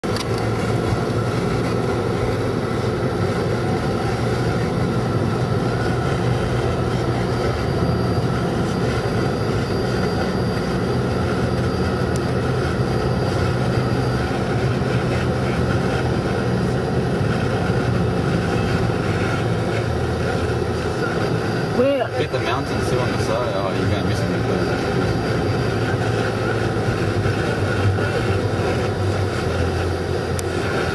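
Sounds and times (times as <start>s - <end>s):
car engine and tyre noise: 0.0s - 30.9s.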